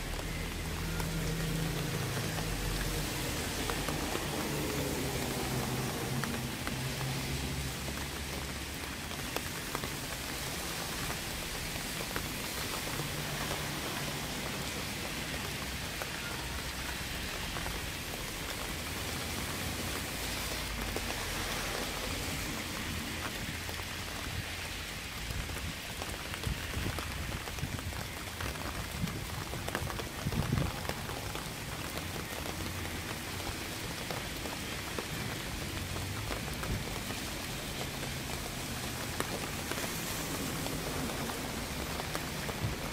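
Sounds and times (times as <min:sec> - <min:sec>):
rain pattering on surfaces: 0:00.0 - 0:42.9.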